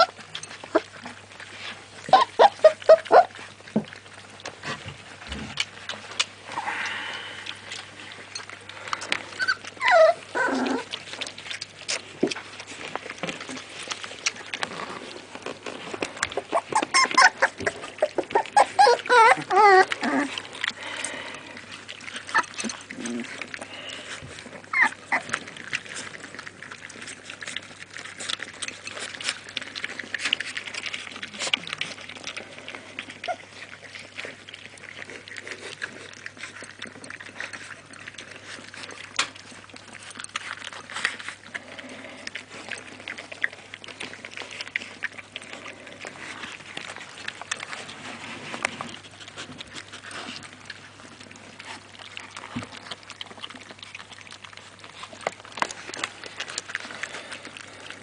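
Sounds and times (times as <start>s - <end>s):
puppies crunching dry kibble: 0.0s - 58.0s.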